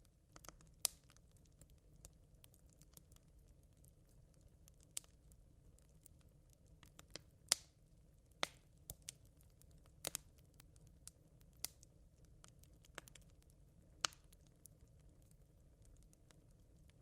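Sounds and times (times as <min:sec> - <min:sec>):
embers crackling and popping: 0:00.0 - 0:17.0
low steady hiss: 0:00.0 - 0:17.0.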